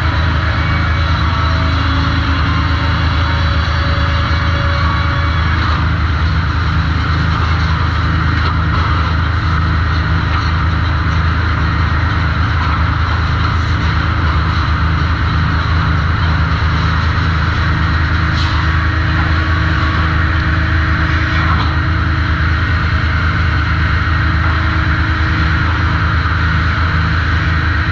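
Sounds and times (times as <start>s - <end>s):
sawmill machinery hum: 0.0s - 27.9s.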